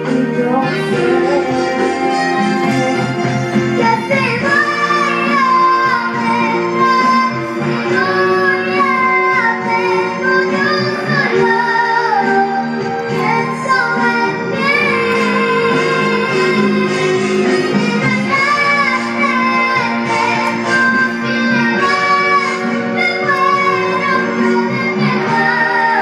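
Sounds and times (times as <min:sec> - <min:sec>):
girl singing a ballad: 0:00.0 - 0:26.0
instrumental accompaniment: 0:00.0 - 0:26.0.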